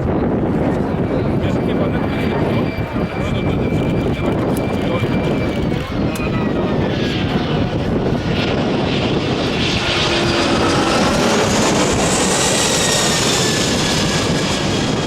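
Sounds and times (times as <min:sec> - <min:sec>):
jet engines flying past: 0:00.0 - 0:15.0.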